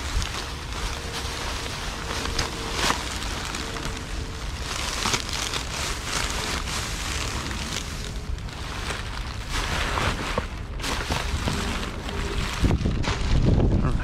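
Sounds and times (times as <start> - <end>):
plastic bags rustling and crinkling: 0.0 - 14.0.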